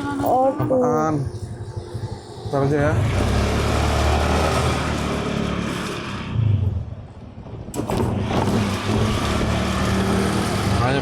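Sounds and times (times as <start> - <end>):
vehicle engine hum with road noise: 0.0 - 11.0.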